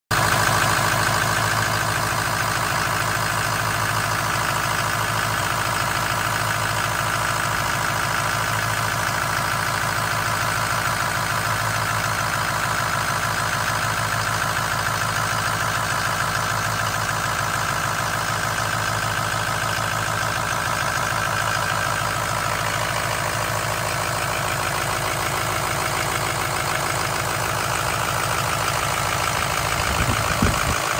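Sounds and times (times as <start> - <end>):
diesel engine idling: 0.1 - 30.9.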